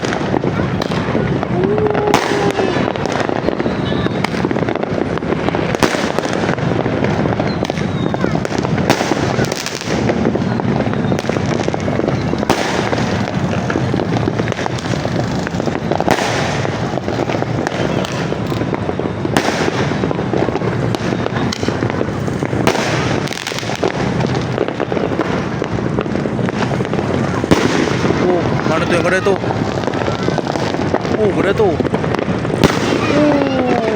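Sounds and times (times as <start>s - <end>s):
fireworks crackling: 0.0s - 33.9s
loud firework bangs: 0.0s - 33.9s.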